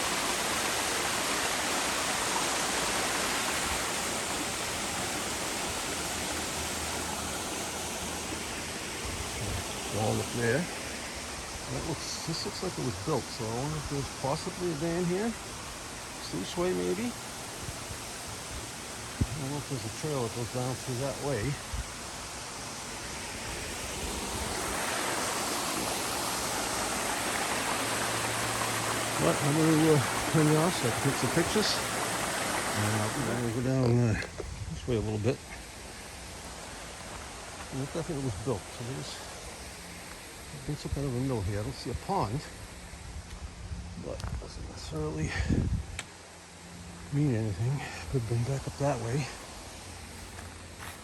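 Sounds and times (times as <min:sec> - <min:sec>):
stream water rushing: 0:00.0 - 0:43.6, 0:46.0 - 0:51.0.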